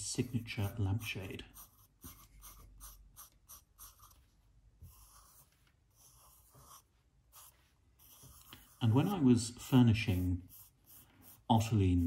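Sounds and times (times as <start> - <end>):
pen scratching on paper: 0.0 - 12.0.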